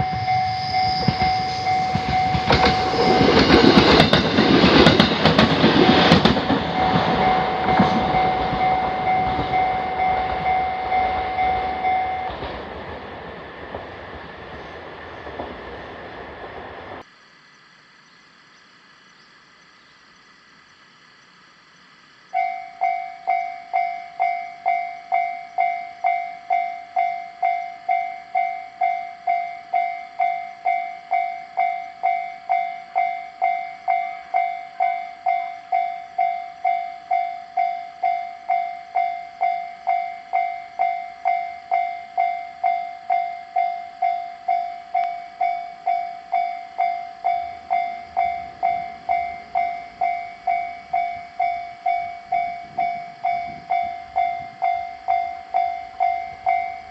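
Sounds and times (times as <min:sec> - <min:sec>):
crossing warning bell ringing: 0:00.0 - 0:14.2, 0:22.4 - 0:56.9
train passing: 0:00.0 - 0:17.1, 0:22.3 - 0:56.9.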